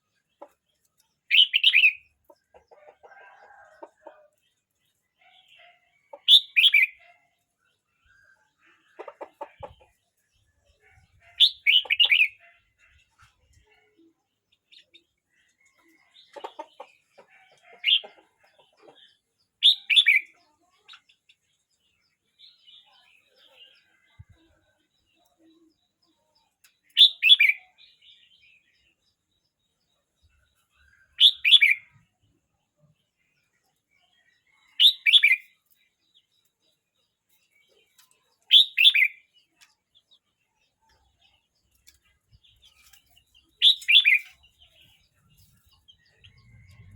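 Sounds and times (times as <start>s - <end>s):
bird singing warbled phrases: 0.0s - 2.8s, 5.2s - 32.1s, 32.7s - 46.9s.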